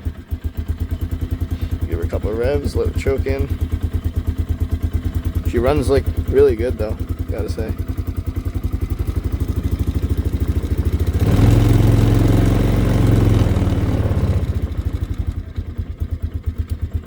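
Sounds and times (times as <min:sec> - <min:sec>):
engine idling and revving: 0:00.0 - 0:17.0.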